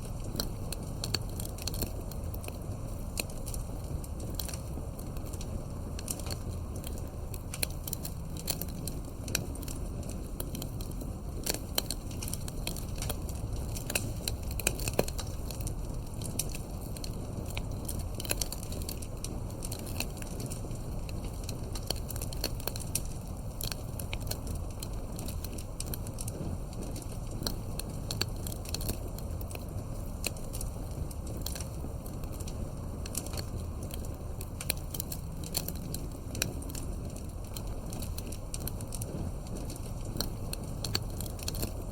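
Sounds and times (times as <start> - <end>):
campfire crackling: 0.0 - 41.9
low rumble of wind: 0.0 - 41.9.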